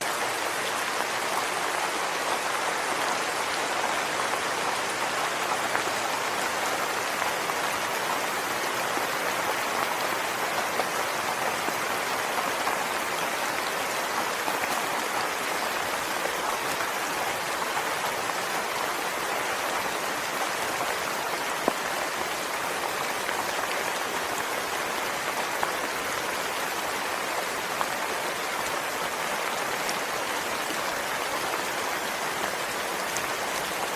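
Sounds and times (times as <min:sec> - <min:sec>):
soft rain hiss: 0:00.0 - 0:33.9.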